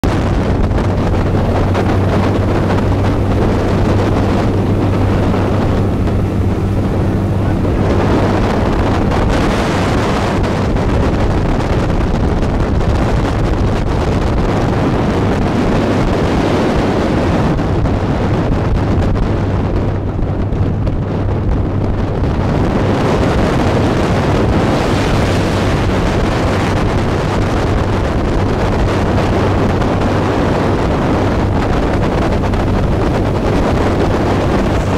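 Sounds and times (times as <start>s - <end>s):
boat engine droning: 0.0s - 34.9s
water rushing past hull: 0.0s - 34.9s
wind buffeting microphone: 0.0s - 34.9s.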